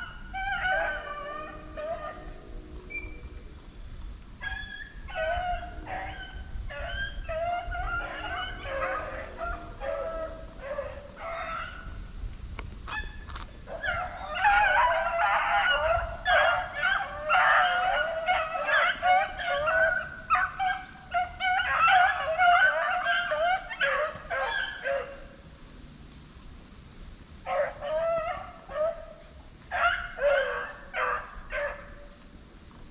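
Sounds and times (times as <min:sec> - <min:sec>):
dogs baying and yelping: 0:00.0 - 0:03.3, 0:04.4 - 0:12.0, 0:12.9 - 0:25.4, 0:27.5 - 0:32.2.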